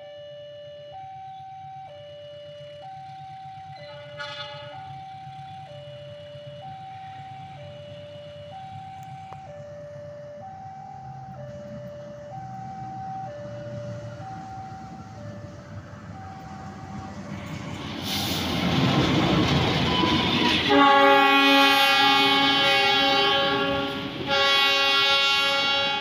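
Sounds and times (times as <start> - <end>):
two-tone level crossing alarm: 0.0 - 17.4, 19.8 - 26.0
locomotive engine rumble: 1.2 - 26.0.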